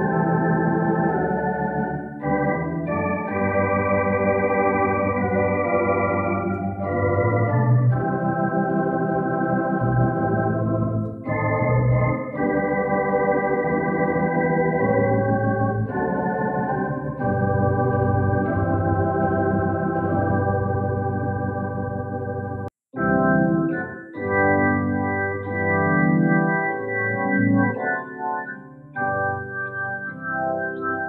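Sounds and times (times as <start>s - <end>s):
church organ chords: 0.0s - 31.0s.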